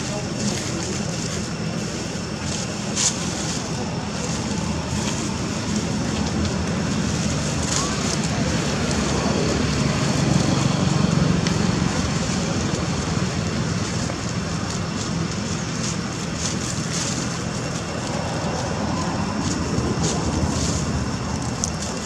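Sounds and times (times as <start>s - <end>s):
dry leaves crackling: 0.0s - 22.0s
low outdoor rumble: 0.0s - 22.0s.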